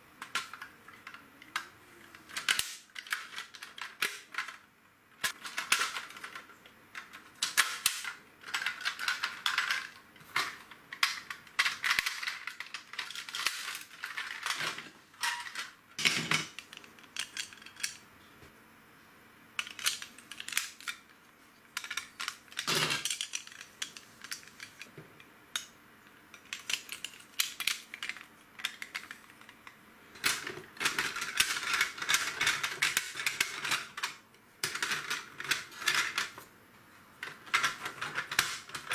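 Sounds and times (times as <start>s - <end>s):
plastic bricks clicking: 0.2s - 4.6s, 5.2s - 18.0s, 19.6s - 21.1s, 21.8s - 24.9s, 26.3s - 36.4s.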